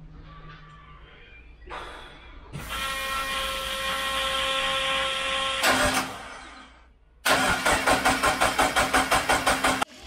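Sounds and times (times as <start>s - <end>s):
engine starter whine: 1.8s - 10.0s.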